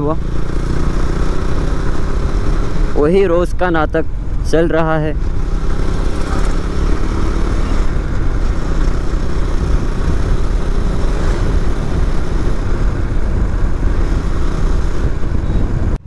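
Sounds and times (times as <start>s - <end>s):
motorcycle engine running: 0.0s - 16.0s
wind rush on microphone: 0.0s - 16.0s.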